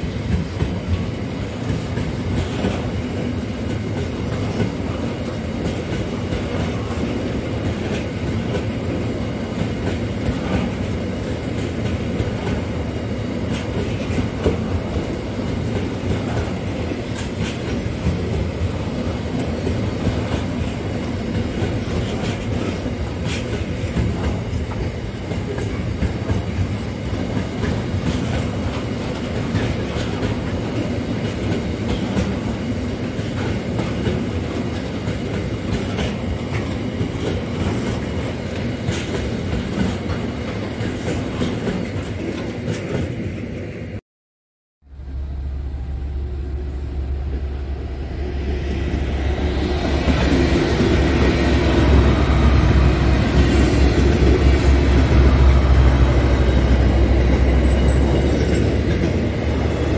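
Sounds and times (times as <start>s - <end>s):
train wheels clickety-clack: 0.0s - 44.0s, 48.2s - 59.9s.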